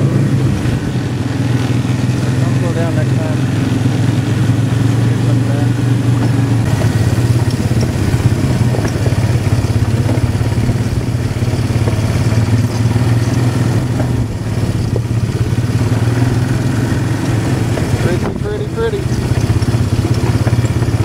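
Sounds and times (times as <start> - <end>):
quad bike engine running: 0.0 - 21.0
vehicle rattling over ground: 0.0 - 21.0.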